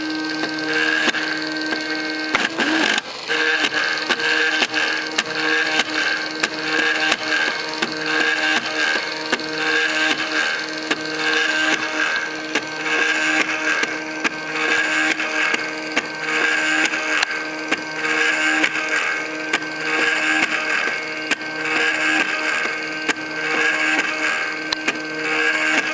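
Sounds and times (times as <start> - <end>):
stepper motors whining: 0.0 - 25.9
sharp clicks: 0.3 - 25.9.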